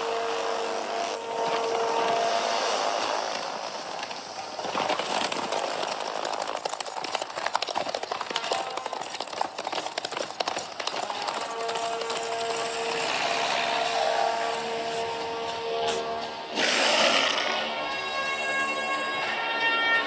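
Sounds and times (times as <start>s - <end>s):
horses galloping: 0.9s - 18.6s.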